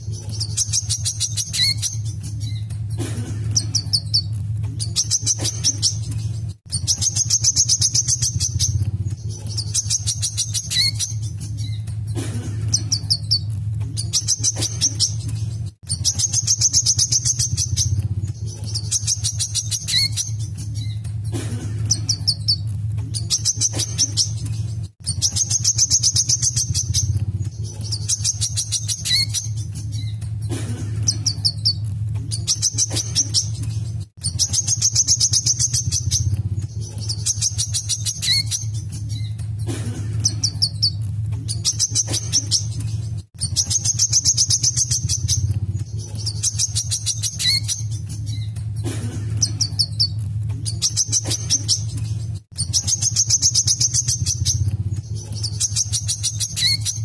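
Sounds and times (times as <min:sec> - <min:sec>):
bird trilling and chirping: 0:00.0 - 0:57.0
steady low hum: 0:00.0 - 0:57.0.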